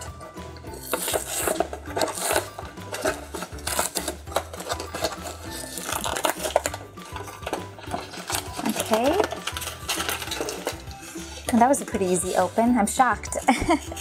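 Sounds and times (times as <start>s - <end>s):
background music with low beat: 0.0s - 14.0s
plastic packaging and cardboard rustling: 0.0s - 14.0s.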